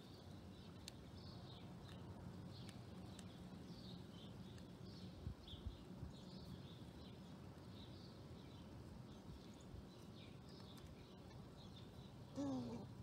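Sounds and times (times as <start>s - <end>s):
low steady hum: 0.0s - 13.0s
small birds chirping: 0.0s - 13.0s.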